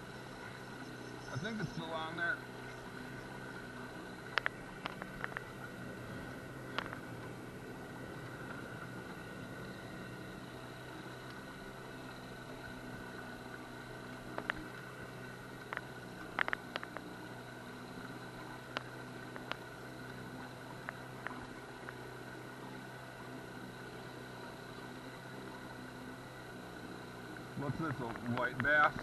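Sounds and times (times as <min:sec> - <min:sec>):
boat motor humming: 0:00.0 - 0:29.0.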